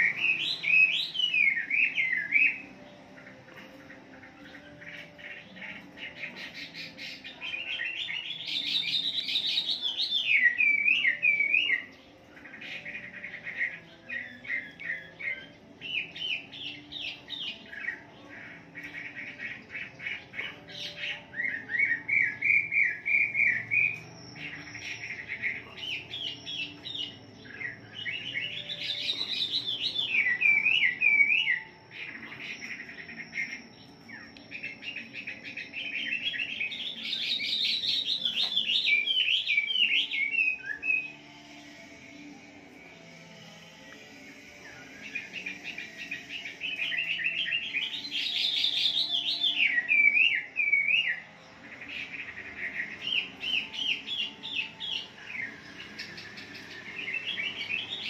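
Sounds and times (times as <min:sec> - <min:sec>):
bird singing whistles and warbles: 0:00.0 - 0:58.0.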